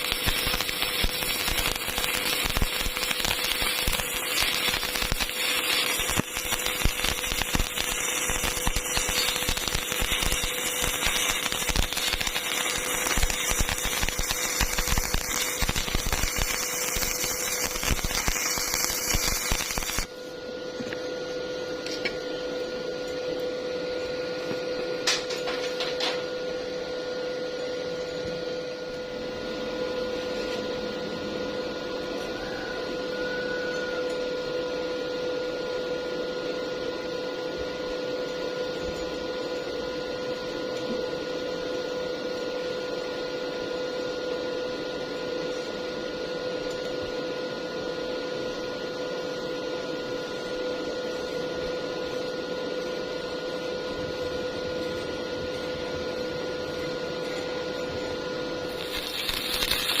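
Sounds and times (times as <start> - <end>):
machine hum with whine: 0.0 - 60.0.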